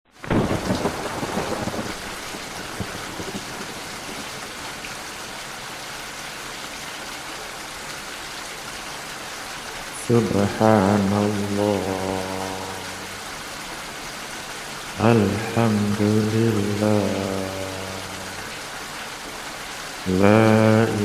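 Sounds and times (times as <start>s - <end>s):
rain falling: 0.1s - 21.0s.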